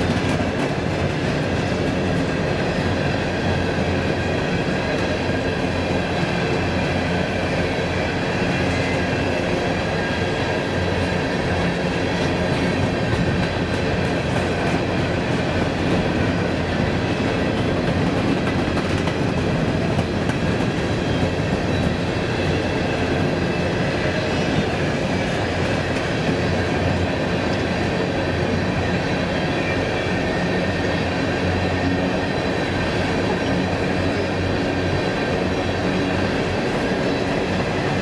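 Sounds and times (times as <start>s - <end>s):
train rumbling past on rails: 0.0s - 38.0s.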